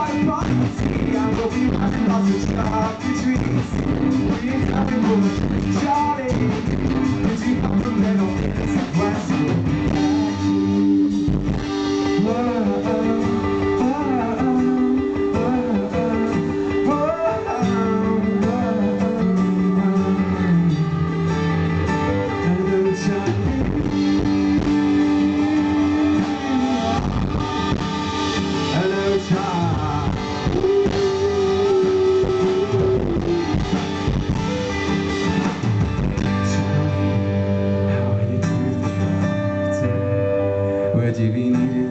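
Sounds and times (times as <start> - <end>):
electric guitar lead line: 0.0 - 41.9
live rock band playing: 0.0 - 41.9.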